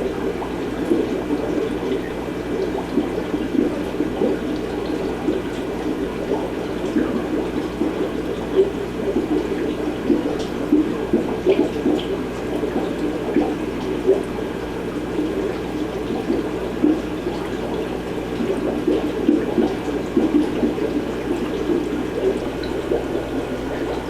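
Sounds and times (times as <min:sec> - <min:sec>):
aquarium water bubbling and trickling: 0:00.0 - 0:24.0
steady low hum: 0:00.0 - 0:24.0.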